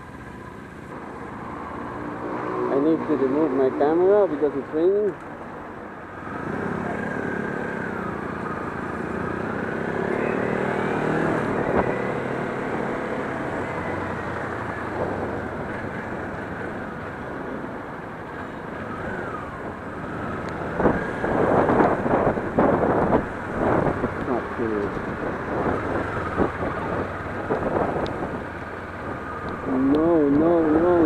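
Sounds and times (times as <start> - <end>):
road noise: 0.0 - 31.0
motorcycle engine: 5.9 - 31.0.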